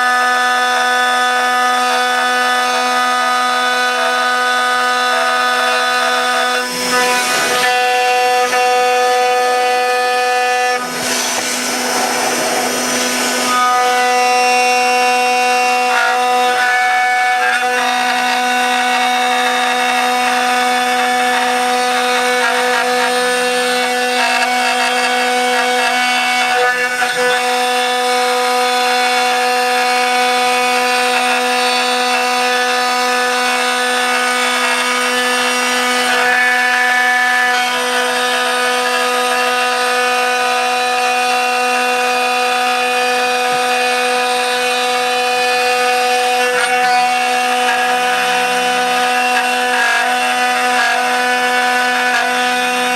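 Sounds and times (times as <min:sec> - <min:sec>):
cutter rasping wood: 0:00.0 - 0:52.9
router spindle whine: 0:00.0 - 0:52.9.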